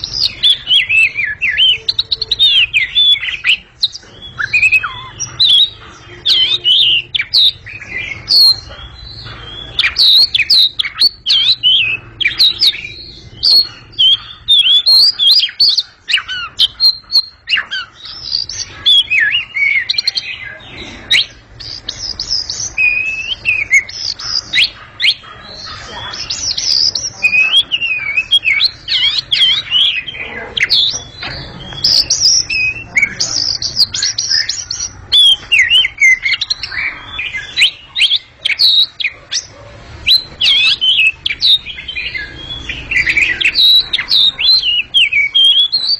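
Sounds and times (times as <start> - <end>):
bird singing whistles and chirps: 0.0 - 45.9.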